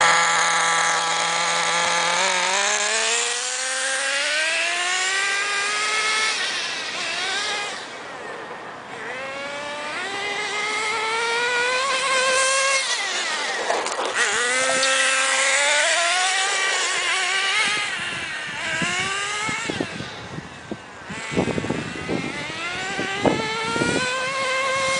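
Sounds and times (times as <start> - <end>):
rc truck engine revving: 0.0 - 24.9.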